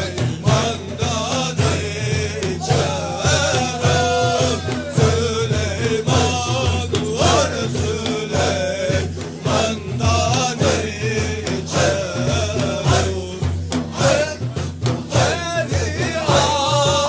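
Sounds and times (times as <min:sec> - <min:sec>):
steady low beat: 0:00.0 - 0:17.0
voices chanting together: 0:00.0 - 0:17.0.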